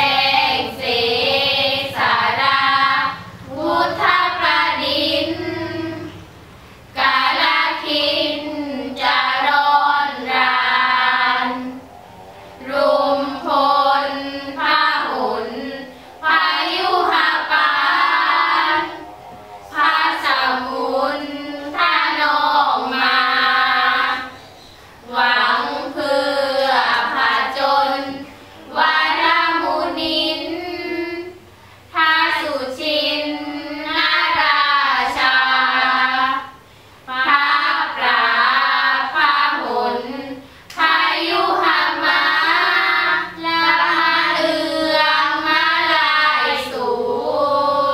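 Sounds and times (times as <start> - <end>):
girls chanting in unison: 0.0 - 47.9.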